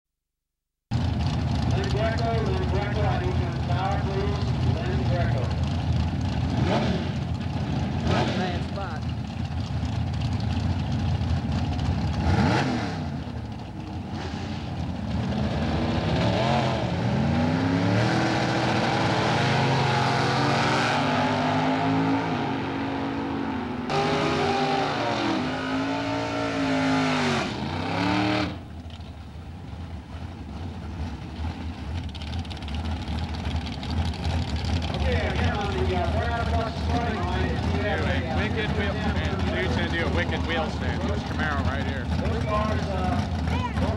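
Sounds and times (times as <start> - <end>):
engines rumbling at idle: 0.9 - 43.9
drag cars accelerating: 1.0 - 43.9.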